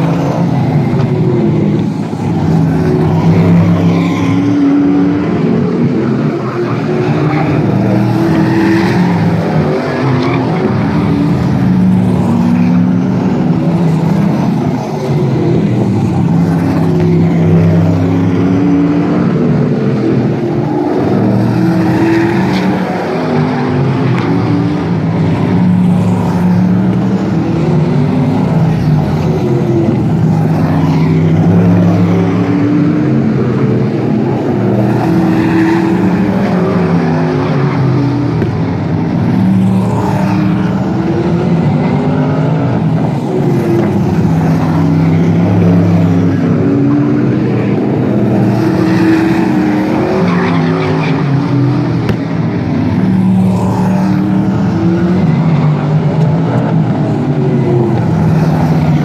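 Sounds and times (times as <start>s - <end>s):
race car engines at full throttle: 0.0s - 59.0s.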